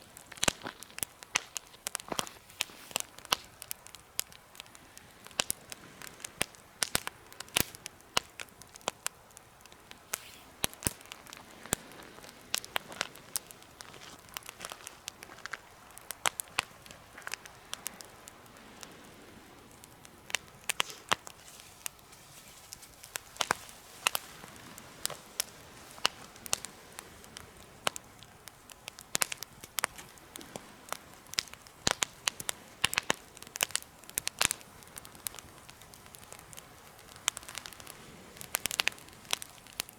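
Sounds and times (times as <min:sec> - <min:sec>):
campfire crackling and popping: 0:00.0 - 0:39.9
soft steady fire hiss: 0:00.0 - 0:39.9.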